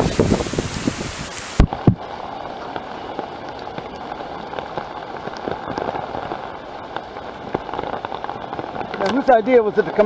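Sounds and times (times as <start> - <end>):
rain hissing: 0.0 - 10.0
raindrop ticks: 0.8 - 10.0.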